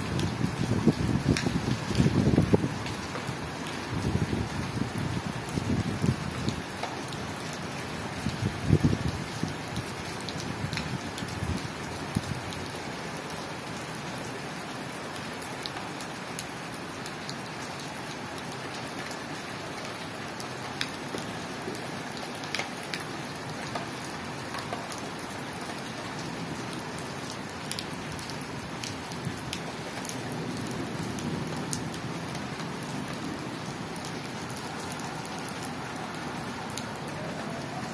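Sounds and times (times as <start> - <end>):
rain on a tiled roof: 0.0 - 37.9.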